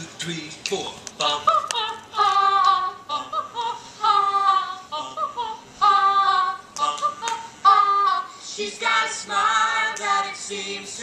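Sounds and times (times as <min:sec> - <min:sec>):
high voice singing with vibrato: 0:01.2 - 0:11.0.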